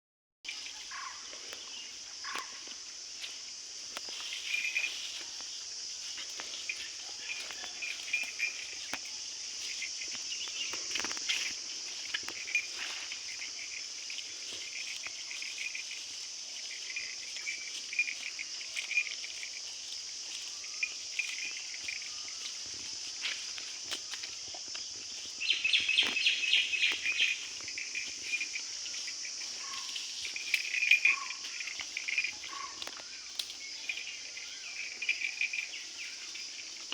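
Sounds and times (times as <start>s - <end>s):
insect chorus buzzing: 0.5s - 36.9s
short insect chirps: 0.5s - 36.9s.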